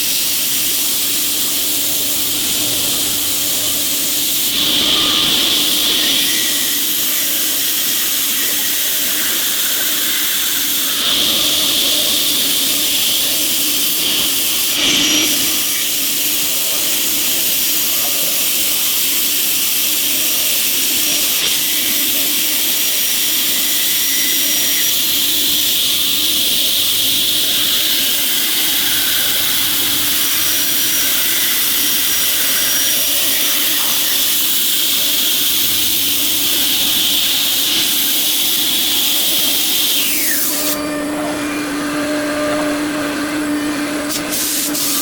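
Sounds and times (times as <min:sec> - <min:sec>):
cnc machine hissing: 0:00.0 - 0:45.0.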